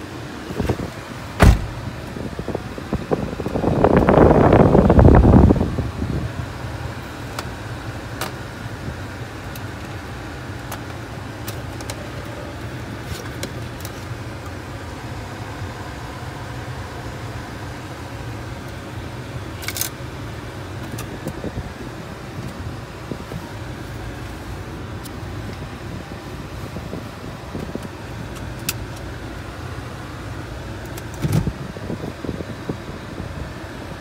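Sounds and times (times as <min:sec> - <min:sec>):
air conditioning blowing: 0:00.0 - 0:34.0
car running rumble: 0:00.0 - 0:34.0.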